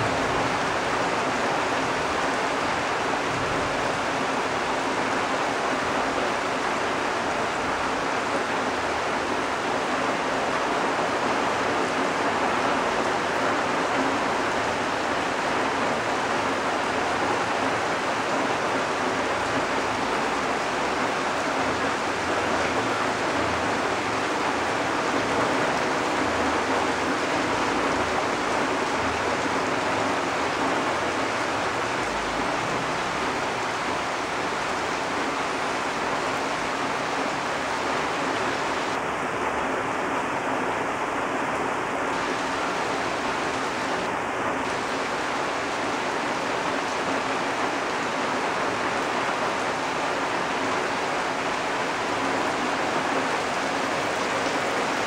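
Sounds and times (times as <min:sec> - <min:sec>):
rain falling on foliage: 0:00.0 - 0:55.0.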